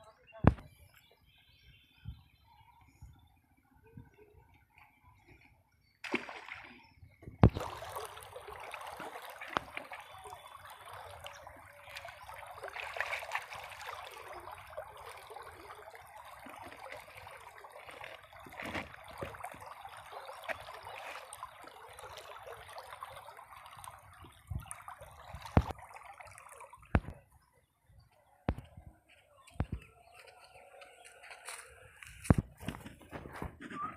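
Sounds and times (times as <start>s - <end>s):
water trickling and sloshing: 0.0s - 33.9s.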